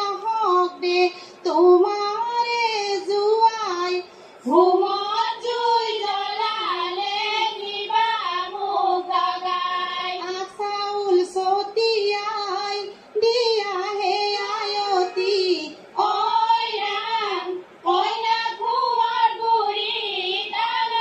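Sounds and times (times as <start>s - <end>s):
women singing through tv speaker: 0.0s - 21.0s.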